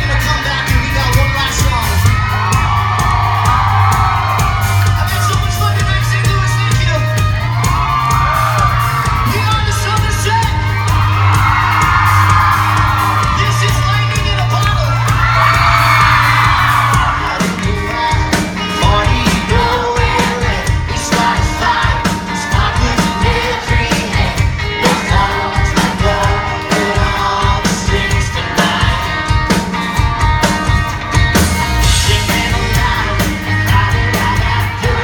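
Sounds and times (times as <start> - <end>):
live pop-rock band with singing: 0.0 - 35.0
steady drum beat: 0.0 - 35.0
crowd screaming: 0.2 - 35.0.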